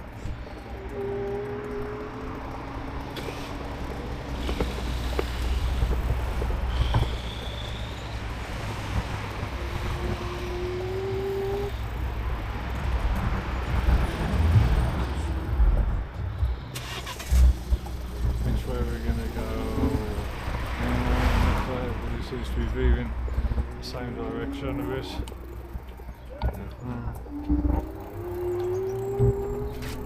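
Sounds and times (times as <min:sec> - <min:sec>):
car traffic: 0:00.0 - 0:30.0
road noise: 0:00.0 - 0:30.0.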